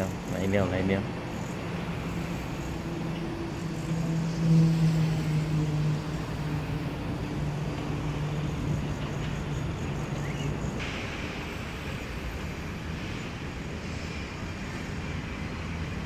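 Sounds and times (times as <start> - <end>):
distant motor engine drone: 0.0 - 16.0.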